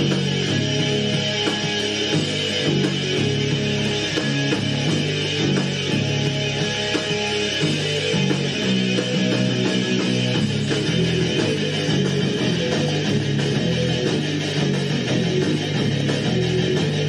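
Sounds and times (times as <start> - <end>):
heavy rock bass and guitar riff: 0.0 - 17.0.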